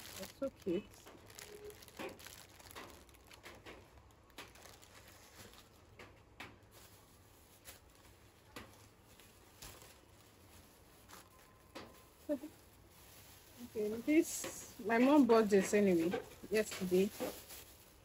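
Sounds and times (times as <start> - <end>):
plastic bags rustling: 0.0 - 18.0.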